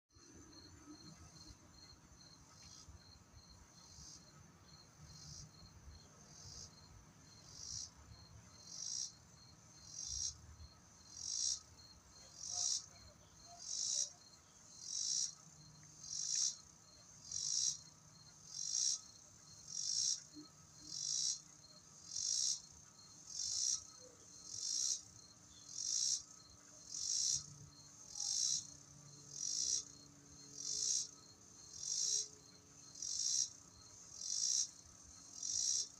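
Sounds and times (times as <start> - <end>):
faint insect trill: 0.1 - 35.9.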